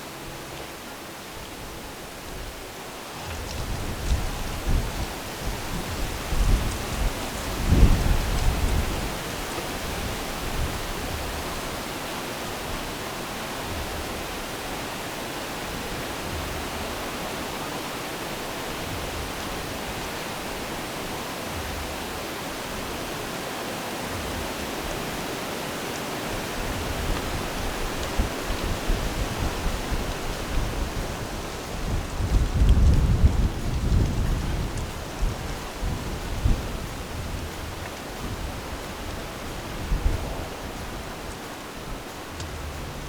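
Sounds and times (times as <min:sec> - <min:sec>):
steady hiss: 0:00.0 - 0:43.0.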